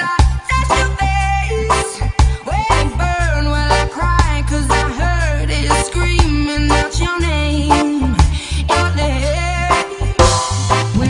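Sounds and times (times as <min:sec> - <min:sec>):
music with deep bass line: 0:00.0 - 0:11.0.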